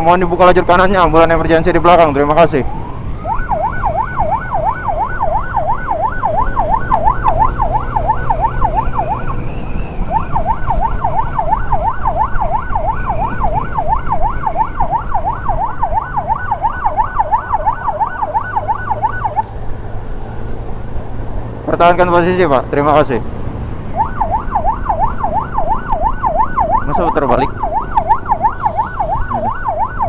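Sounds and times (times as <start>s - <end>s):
road noise: 0.0s - 30.0s
electronic yelp siren: 0.4s - 19.5s, 23.9s - 30.0s.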